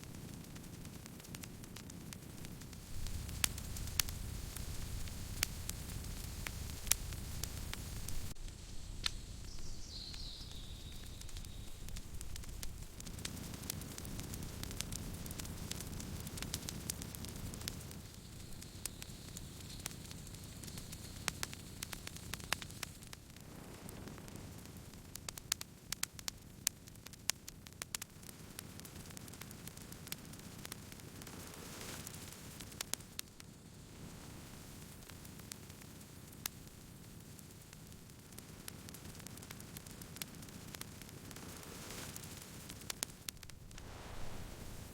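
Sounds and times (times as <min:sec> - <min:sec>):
low rumble of flames: 0:00.0 - 0:44.9
wood crackling and popping: 0:00.0 - 0:44.9.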